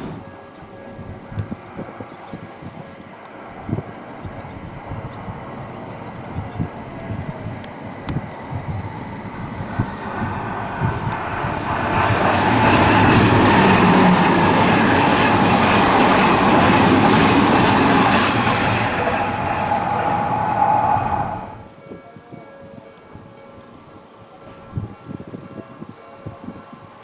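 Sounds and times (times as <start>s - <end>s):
train passing: 0.0s - 21.8s.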